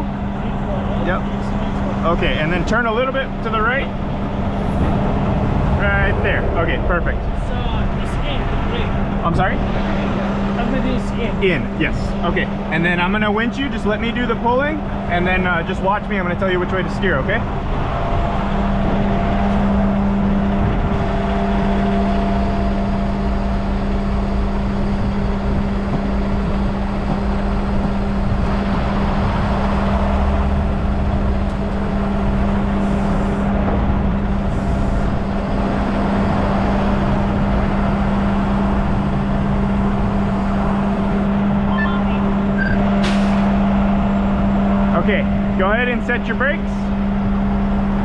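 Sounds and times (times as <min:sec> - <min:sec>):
tow truck engine and hydraulic winch: 0:08.4 - 0:48.0.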